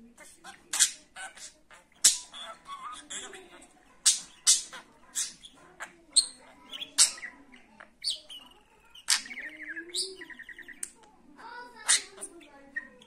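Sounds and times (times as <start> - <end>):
budgerigar chirping: 0.2 - 11.0, 11.8 - 13.0
buzzy bird warble: 0.2 - 11.0.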